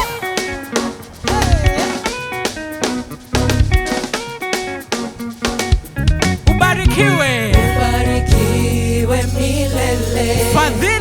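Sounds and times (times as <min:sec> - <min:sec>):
drum-kit beat: 0:00.0 - 0:11.0
guitar: 0:00.0 - 0:11.0
live band playing upbeat music: 0:00.0 - 0:11.0.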